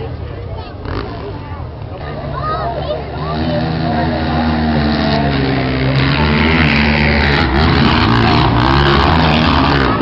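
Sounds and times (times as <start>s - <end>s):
racing vehicle engines revving: 0.0s - 10.0s.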